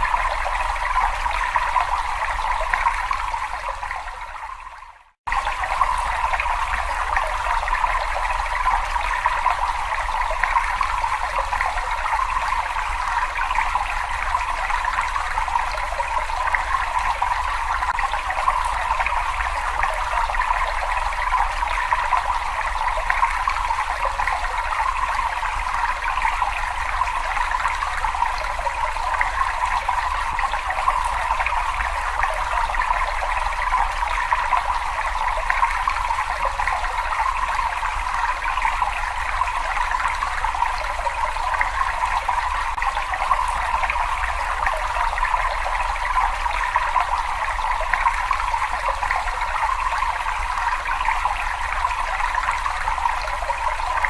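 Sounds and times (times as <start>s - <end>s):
water trickling and running: 0.0s - 54.0s.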